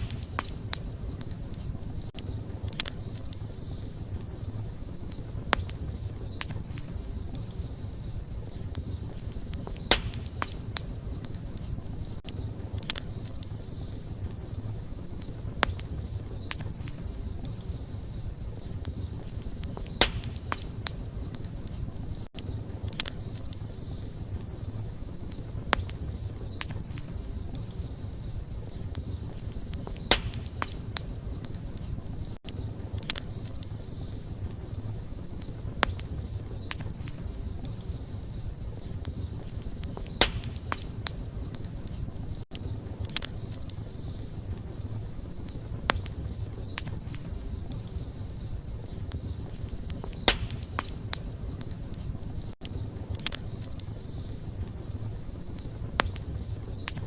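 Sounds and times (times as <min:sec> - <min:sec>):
campfire flames rumbling: 0:00.0 - 0:57.0
fire crackles and pops: 0:00.0 - 0:57.0.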